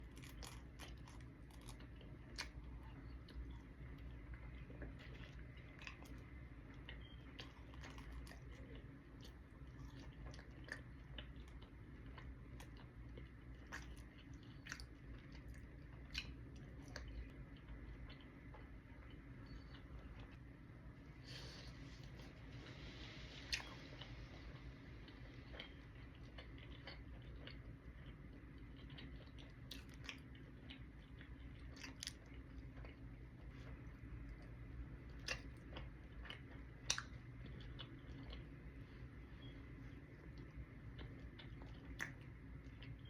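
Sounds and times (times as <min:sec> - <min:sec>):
person chewing pizza: 0:00.0 - 0:20.4, 0:23.5 - 0:43.0
low steady hum: 0:00.0 - 0:43.0.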